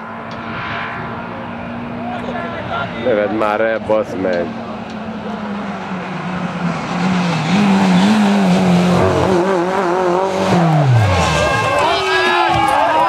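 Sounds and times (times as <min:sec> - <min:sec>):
rally car engine at high revs: 0:00.0 - 0:12.1
tyre and road noise: 0:00.0 - 0:13.0.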